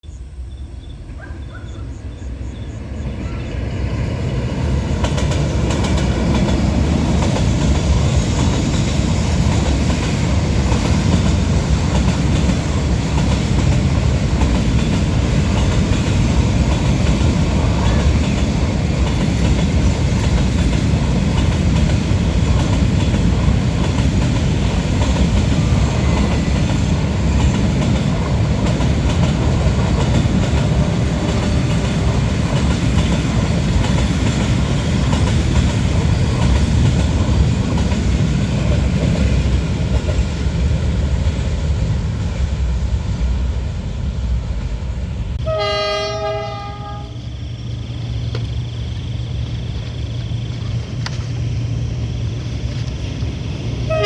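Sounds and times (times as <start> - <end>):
train running on rails: 0.1 - 54.0.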